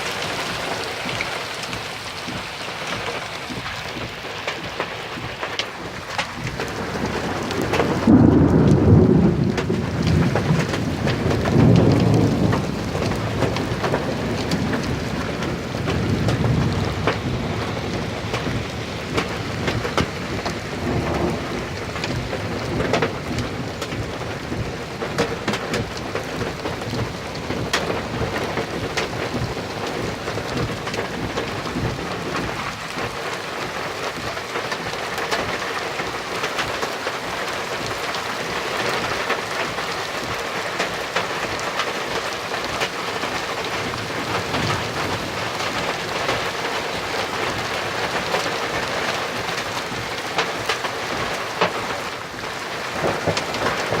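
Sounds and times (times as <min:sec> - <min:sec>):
heavy rain on a hard surface: 0:00.0 - 0:54.0
low thunder rumbling: 0:00.0 - 0:54.0.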